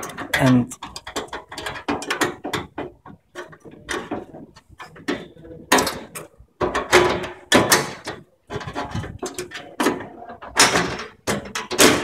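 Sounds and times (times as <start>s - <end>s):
metal scrapes and knocks: 0.0s - 12.0s.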